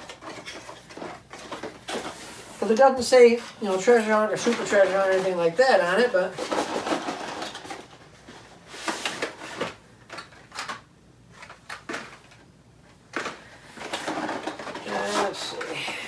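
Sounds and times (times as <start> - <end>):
toy packages handled in box: 0.0 - 2.8, 3.4 - 10.8, 13.1 - 16.0.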